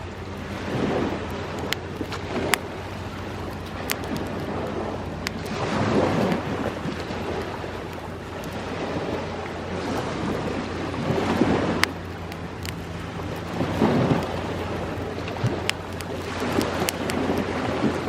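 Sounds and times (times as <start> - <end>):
campfire crackling and popping: 0.0 - 18.0
ocean waves washing ashore: 0.0 - 18.0.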